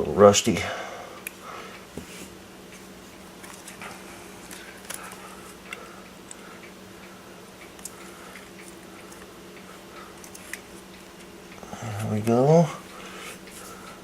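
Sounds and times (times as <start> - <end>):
steady low hum: 0.0 - 14.0
light clicks of small tools: 2.7 - 14.0.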